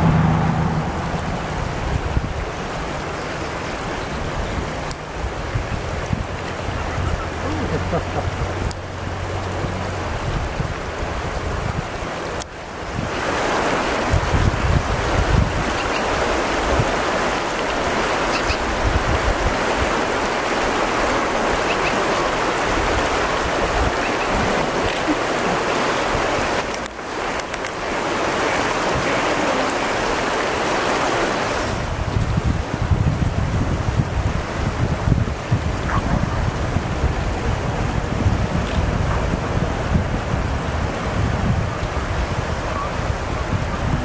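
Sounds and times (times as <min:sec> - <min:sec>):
wind buffeting microphone: 0:00.0 - 0:29.4, 0:30.1 - 0:44.0
rushing outdoor noise: 0:00.0 - 0:44.0.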